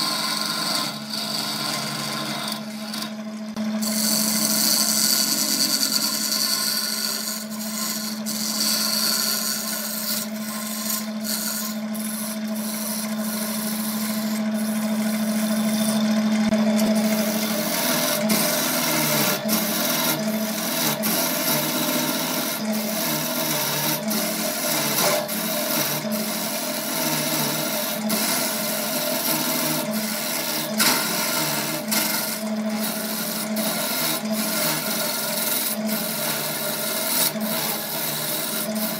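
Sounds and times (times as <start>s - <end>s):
gouge scraping spinning wood: 0.0s - 38.9s
wood lathe motor hum: 0.0s - 38.9s.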